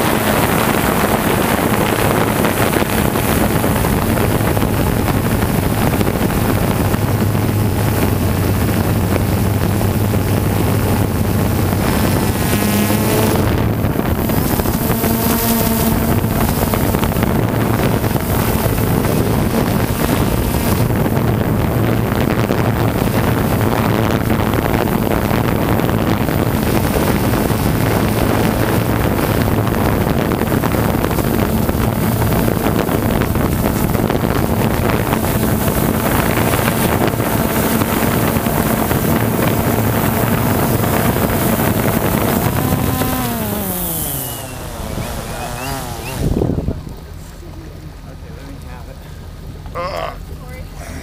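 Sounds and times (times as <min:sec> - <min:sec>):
drone propellers humming: 0:00.0 - 0:51.0.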